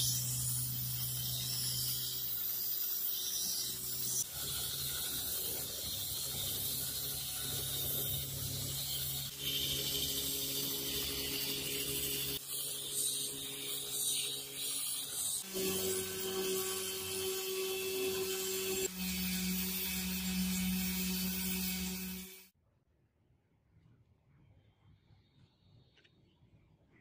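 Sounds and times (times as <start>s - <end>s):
belt grinder grinding metal: 0.0s - 22.5s.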